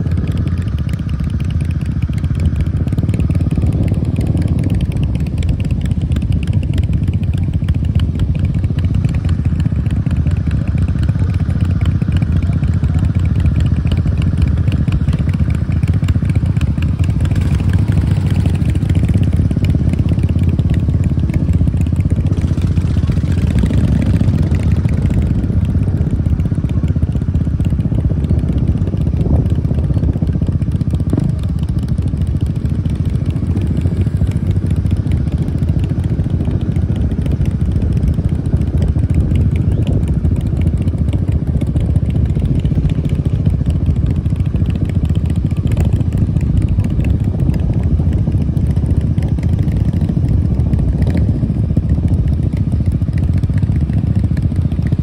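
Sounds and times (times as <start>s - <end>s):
motorcycle engine low rumble: 0.0s - 55.0s.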